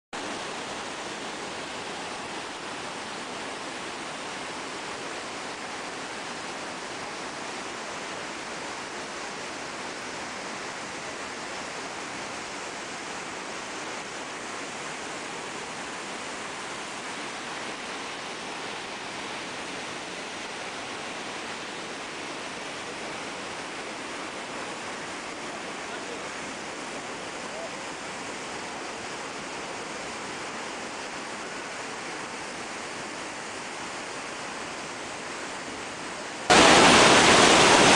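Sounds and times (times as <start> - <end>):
waterfall rushing: 0.2 - 37.9.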